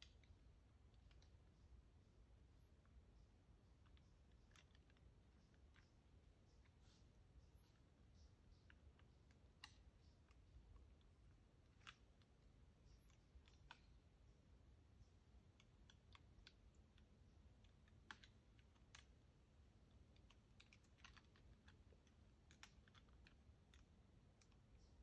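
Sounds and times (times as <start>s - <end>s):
faint small clicks: 0.0s - 25.0s.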